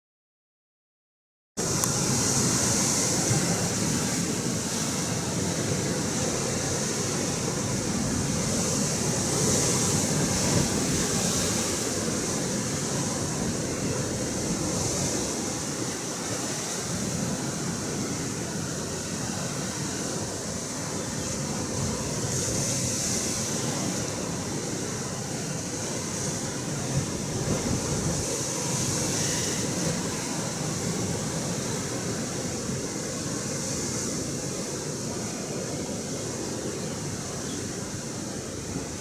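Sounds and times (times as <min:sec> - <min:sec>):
ocean surf washing on shore: 0:01.6 - 0:39.0.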